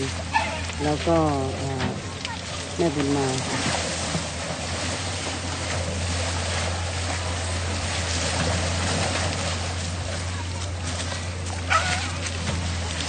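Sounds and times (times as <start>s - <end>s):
low hum: 0.0s - 13.0s
river water rushing: 0.0s - 13.0s.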